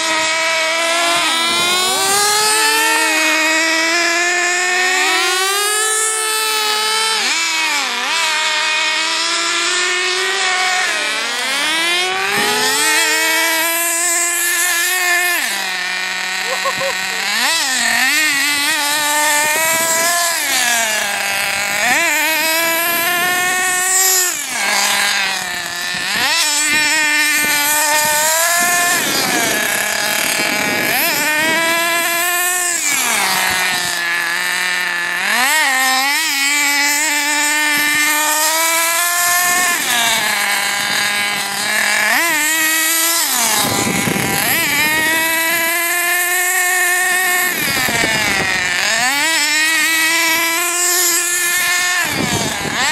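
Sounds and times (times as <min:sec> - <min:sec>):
small engine revving in high buzz: 0:00.0 - 0:52.9.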